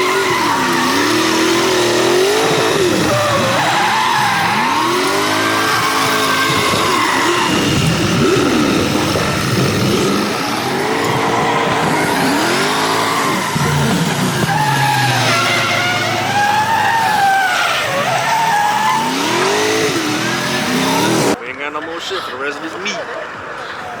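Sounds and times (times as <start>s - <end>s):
car engine revving: 0.0s - 21.4s
tyres squealing: 0.0s - 24.0s.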